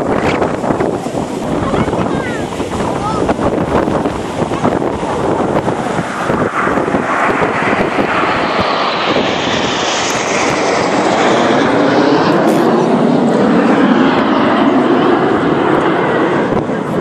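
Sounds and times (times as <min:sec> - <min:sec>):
jets flying past: 0:00.0 - 0:17.0.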